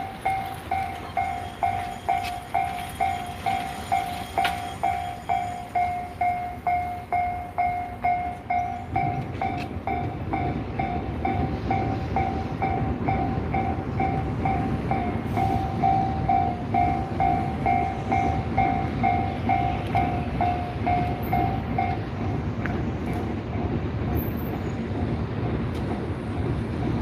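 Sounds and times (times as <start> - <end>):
level crossing alarm bell: 0.0 - 22.1
passing train rumble: 0.0 - 27.0.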